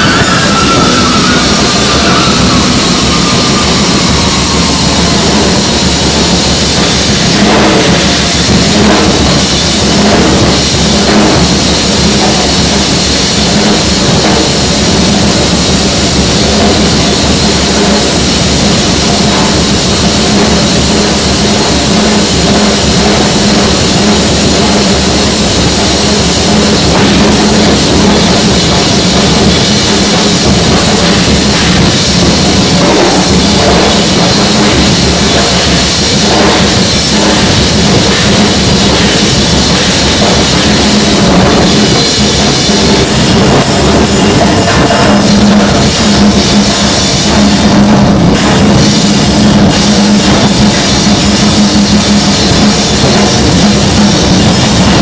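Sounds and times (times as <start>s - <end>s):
cymbals washing: 0.0s - 55.0s
drum kit playing: 0.0s - 55.0s.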